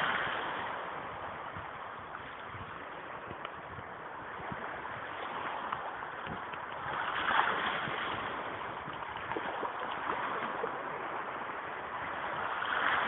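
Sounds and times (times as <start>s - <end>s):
sea waves washing on rocks: 0.0s - 13.0s
wind buffeting microphone: 0.0s - 13.0s.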